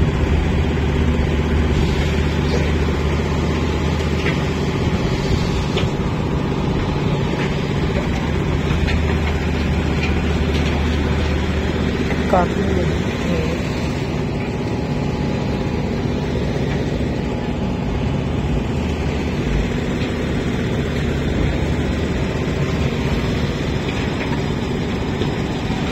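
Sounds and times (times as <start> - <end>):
engine-driven machinery drone: 0.0 - 25.9.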